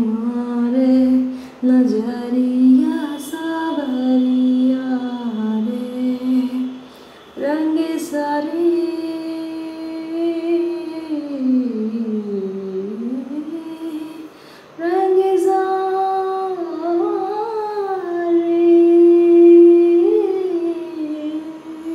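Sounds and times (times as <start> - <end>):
woman singing long notes: 0.0 - 21.9.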